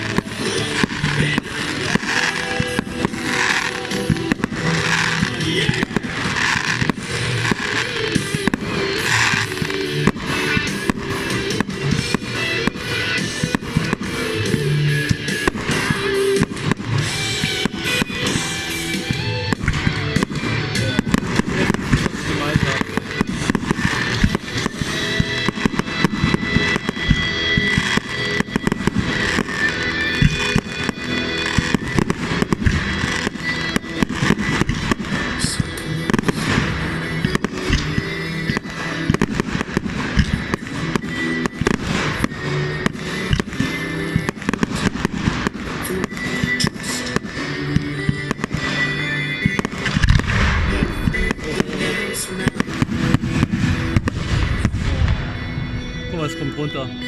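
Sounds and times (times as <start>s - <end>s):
fireworks bangs and crackling: 0.0s - 57.0s
music playing: 0.0s - 57.0s.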